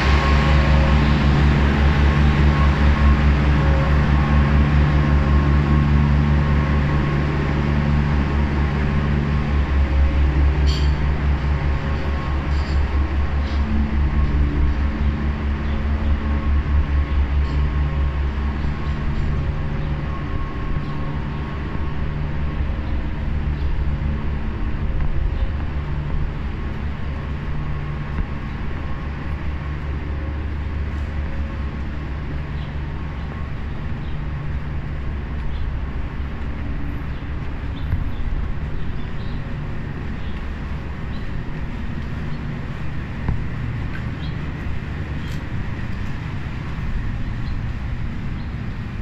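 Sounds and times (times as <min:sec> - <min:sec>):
city street noise: 0:00.0 - 0:49.0
low mechanical hum: 0:00.0 - 0:49.0.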